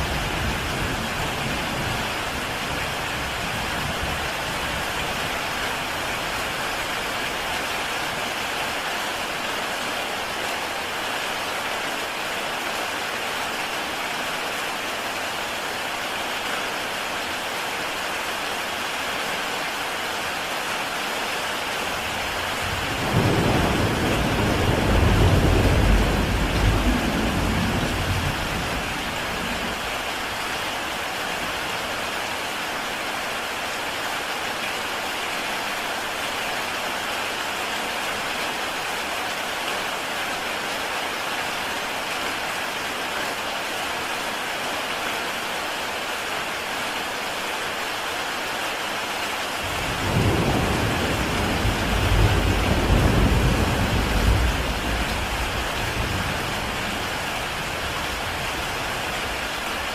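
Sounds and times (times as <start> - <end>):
heavy rain on a tile roof: 0.0 - 59.9.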